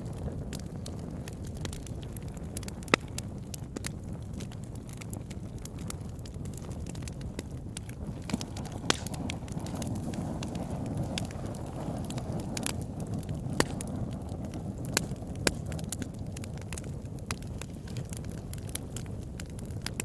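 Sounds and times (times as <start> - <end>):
campfire crackling and popping: 0.0 - 20.0
low rush of flames: 0.0 - 20.0.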